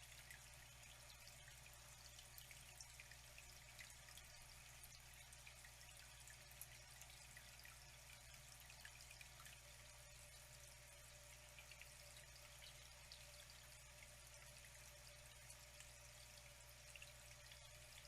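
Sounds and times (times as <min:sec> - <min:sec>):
water drips and splashes: 0:00.0 - 0:18.0.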